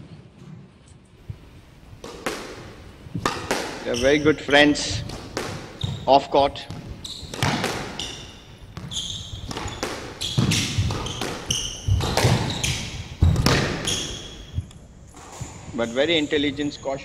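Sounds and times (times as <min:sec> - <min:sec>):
squash ball cracking off rackets: 0:01.2 - 0:15.7
shoes squeaking on wooden floor: 0:01.2 - 0:15.8.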